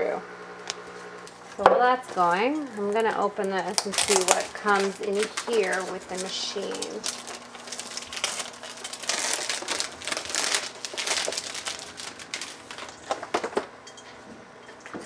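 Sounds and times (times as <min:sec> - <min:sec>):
shrink-wrap crinkling: 0:00.7 - 0:13.7.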